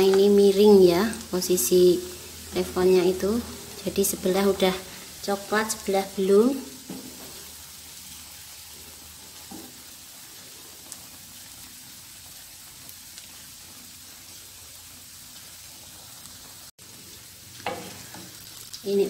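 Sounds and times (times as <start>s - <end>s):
omelette sizzling in oil: 0.0s - 19.0s.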